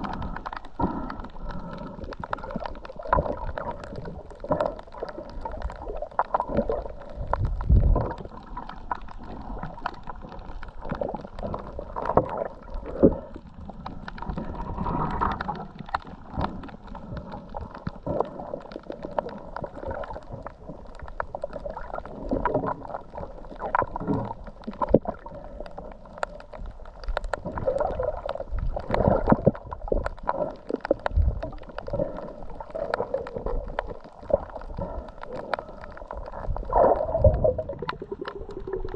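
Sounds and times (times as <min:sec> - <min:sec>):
low underwater rumbles: 0:00.0 - 0:38.9
underwater gurgling and sloshing: 0:00.0 - 0:38.9.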